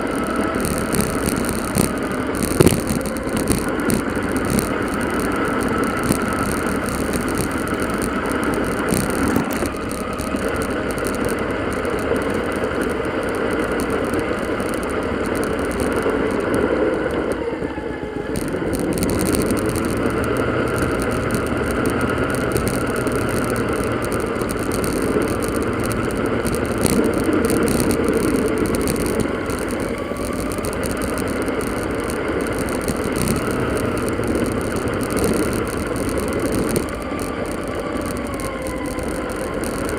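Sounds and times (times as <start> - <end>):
sped-up wind and road noise: 0.0 - 39.9.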